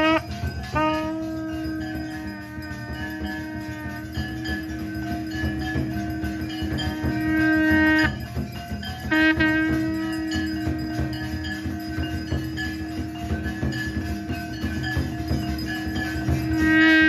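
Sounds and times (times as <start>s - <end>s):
rhythmic musical accompaniment: 0.0s - 17.0s.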